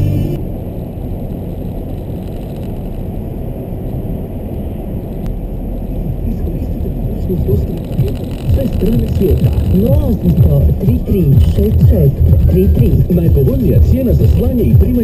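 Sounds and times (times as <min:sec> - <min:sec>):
car tyres and engine rumble: 0:00.0 - 0:15.0.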